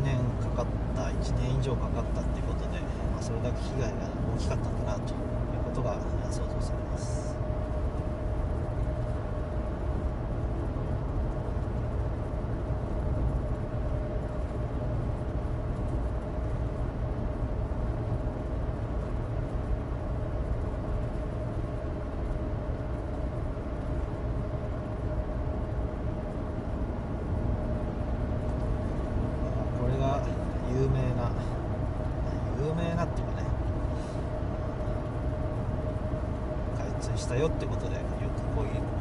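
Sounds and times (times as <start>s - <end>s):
car engine drone: 0.0s - 39.0s
faint whine: 0.0s - 39.0s
tyres on dry road: 0.0s - 39.0s.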